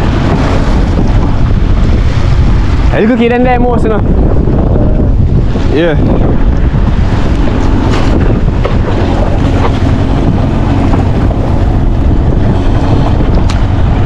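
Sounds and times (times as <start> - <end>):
sea washing against boat: 0.0 - 14.0
wind buffeting microphone: 0.0 - 14.0.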